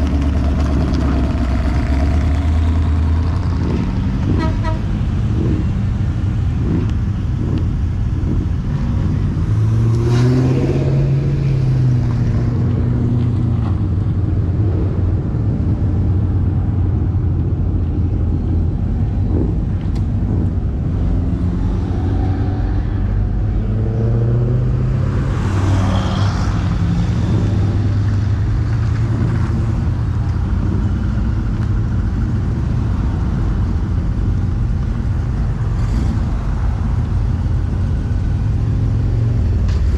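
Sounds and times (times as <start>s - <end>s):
cars driving past: 0.0s - 39.9s.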